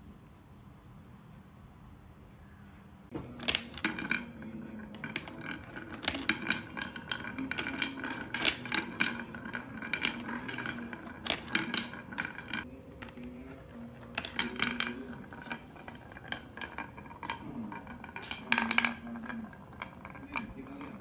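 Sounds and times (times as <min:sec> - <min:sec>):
marble rolling rumble: 0:03.1 - 0:21.0
marble clicking against plastic: 0:03.3 - 0:21.0.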